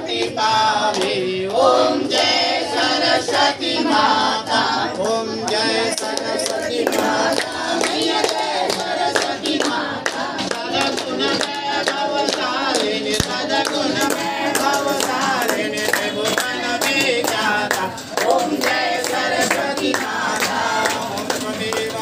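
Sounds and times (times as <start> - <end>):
hand-clapping in time: 0.0 - 3.6, 5.0 - 22.0
women and girls singing a hymn: 0.0 - 22.0.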